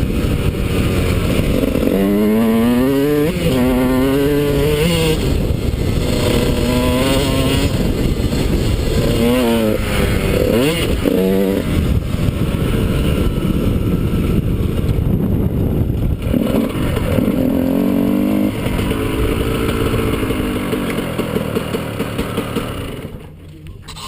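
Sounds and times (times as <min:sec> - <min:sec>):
dirt bike engine revving: 0:00.0 - 0:15.1, 0:16.0 - 0:23.2.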